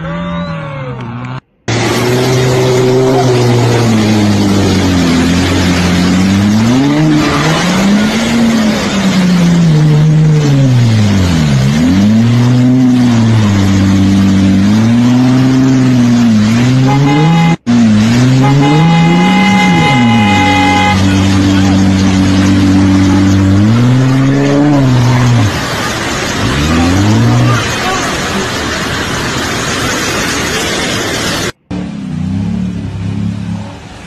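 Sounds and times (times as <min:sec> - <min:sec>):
engine revving: 0:00.8 - 0:30.1
rushing water and spray: 0:01.7 - 0:34.0.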